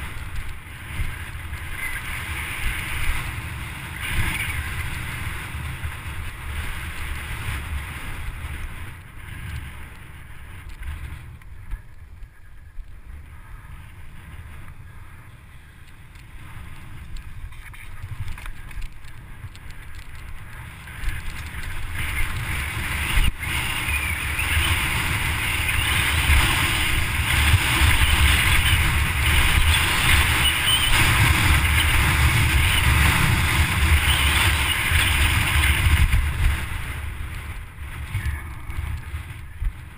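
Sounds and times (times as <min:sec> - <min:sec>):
bike tyres rattling over dirt: 0:00.0 - 0:39.9
wind buffeting camera: 0:00.0 - 0:39.9.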